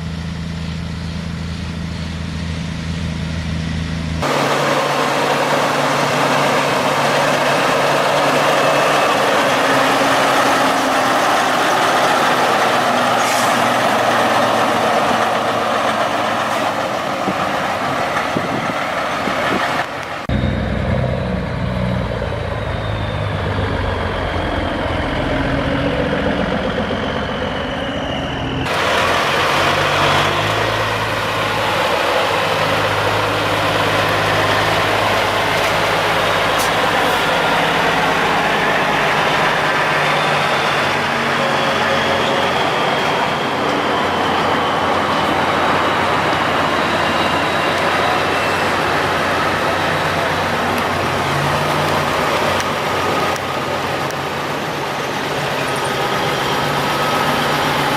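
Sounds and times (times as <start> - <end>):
heavy truck engine humming: 0.0 - 57.9.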